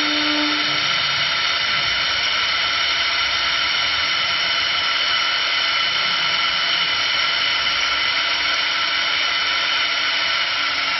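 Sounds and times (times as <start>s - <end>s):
wood lathe whining: 0.0s - 10.9s.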